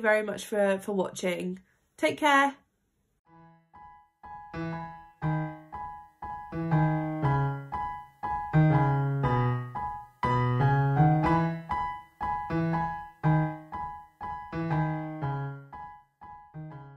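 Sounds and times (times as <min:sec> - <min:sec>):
keyboard playing short chords: 0:03.3 - 0:16.9.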